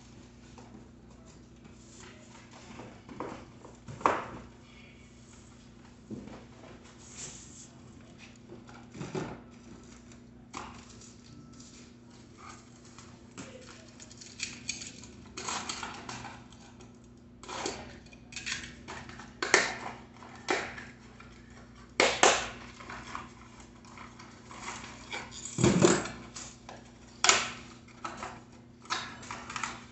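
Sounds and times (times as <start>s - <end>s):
faint low hum: 0.0s - 29.9s.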